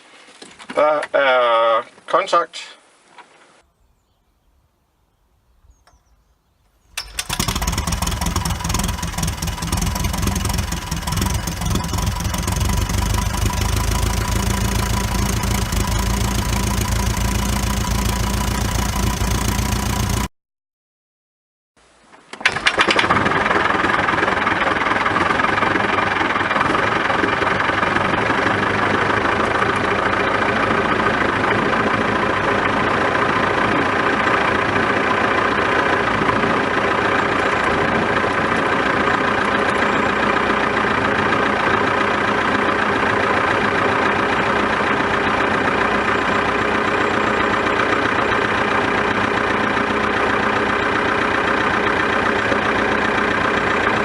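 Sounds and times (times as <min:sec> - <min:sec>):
aircraft engine coughing and idling: 0:06.9 - 0:20.3, 0:22.4 - 0:54.0.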